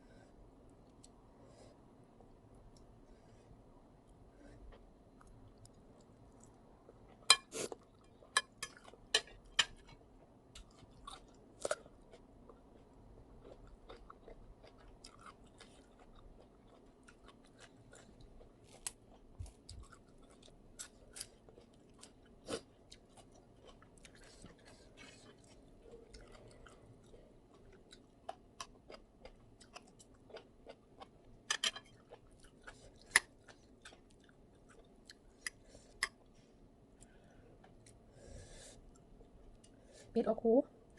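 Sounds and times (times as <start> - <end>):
person chewing food: 4.0 - 39.8.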